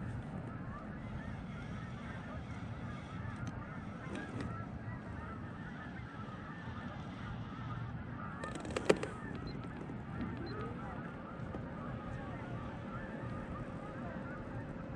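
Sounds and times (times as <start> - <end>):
geese honking: 0.0 - 14.9.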